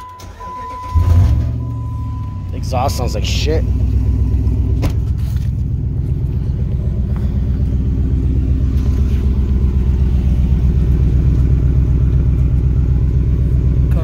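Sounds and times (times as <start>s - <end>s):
engine idling low rumble: 0.0s - 14.0s.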